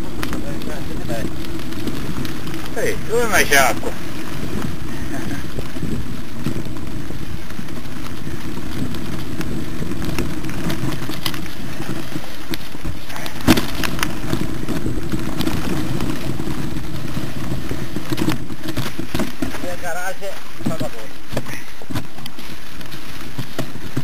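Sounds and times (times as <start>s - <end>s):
bike rattles and clicks: 0.0s - 24.0s
low rumble of ride and wind: 0.0s - 24.0s.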